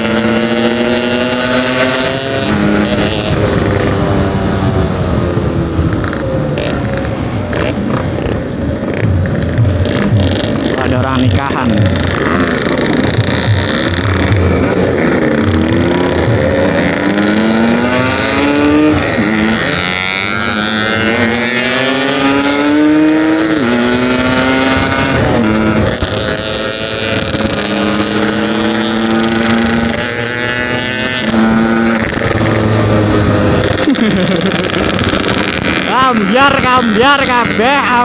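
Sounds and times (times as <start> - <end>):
two-stroke motorcycle accelerating: 0.0 - 38.0.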